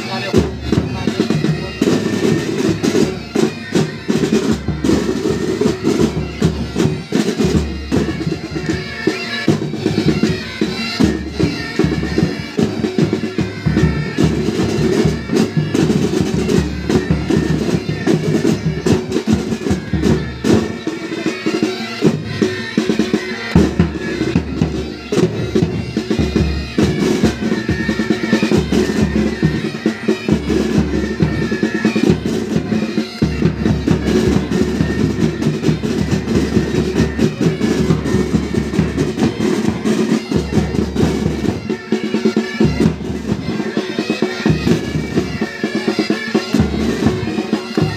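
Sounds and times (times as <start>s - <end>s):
bagpipes playing: 0.0s - 47.9s
snare drums: 0.0s - 47.9s.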